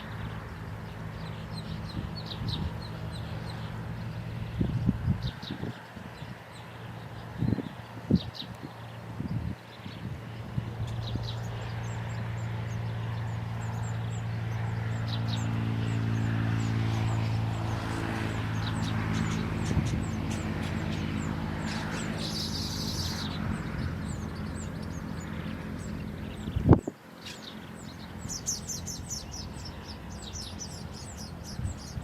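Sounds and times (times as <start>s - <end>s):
low engine drone: 0.0s - 32.0s
small birds chirping: 0.0s - 32.0s.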